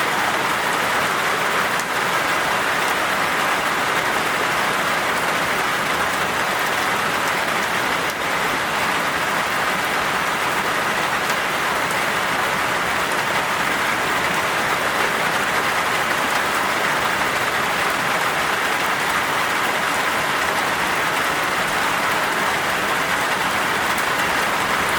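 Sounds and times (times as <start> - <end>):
heavy rain: 0.0 - 24.9.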